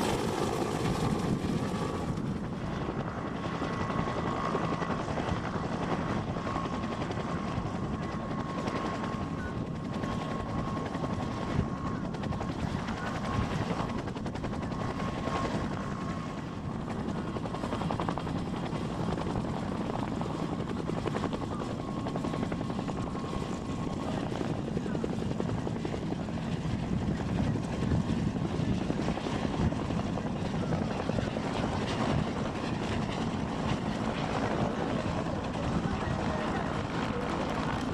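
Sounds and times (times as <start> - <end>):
helicopter running: 0.0 - 37.9.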